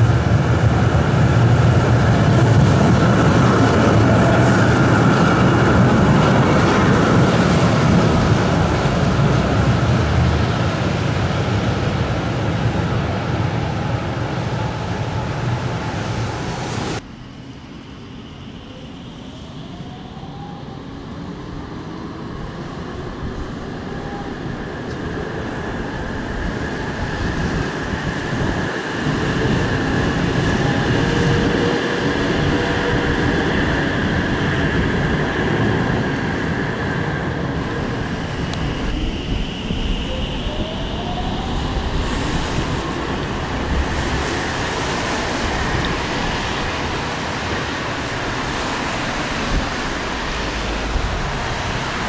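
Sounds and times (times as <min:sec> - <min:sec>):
electric tram running on rails: 0:00.0 - 0:52.0.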